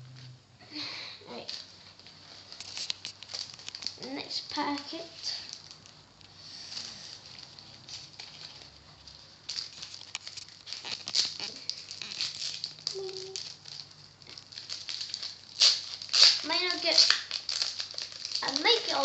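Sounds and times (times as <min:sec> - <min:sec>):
wrapper crinkling being torn open: 0:01.4 - 0:19.0.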